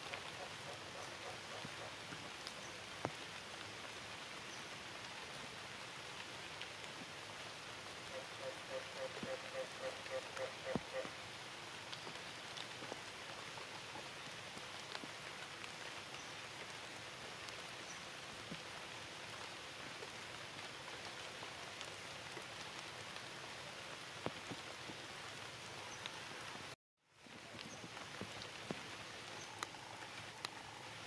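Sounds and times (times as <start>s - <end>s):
faint drips and ticks: 0.0s - 31.0s
light rain falling: 0.0s - 31.0s.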